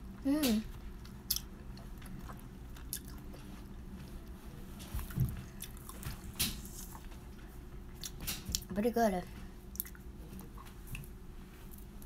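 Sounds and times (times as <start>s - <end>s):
person chewing soft food: 0.7s - 8.7s, 9.7s - 12.0s.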